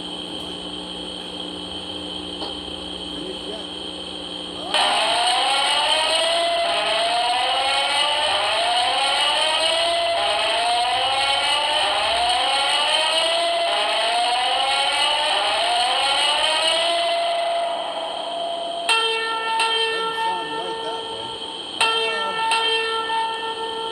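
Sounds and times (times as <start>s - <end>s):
rising and falling alarm siren: 4.6s - 23.9s.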